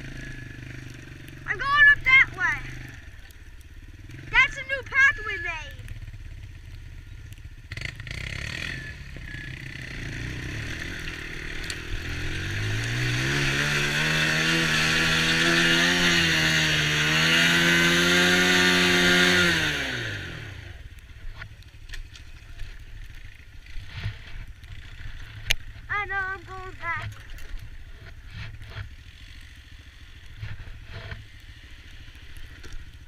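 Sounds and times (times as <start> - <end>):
quad engine accelerating: 0.0 - 33.0.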